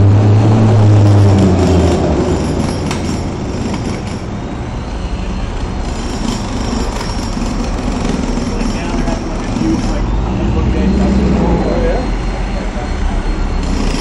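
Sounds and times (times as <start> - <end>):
heavy vehicle engine drone: 0.0 - 14.0
rumbling traffic noise: 0.0 - 14.0
faint high squeals: 1.1 - 14.0.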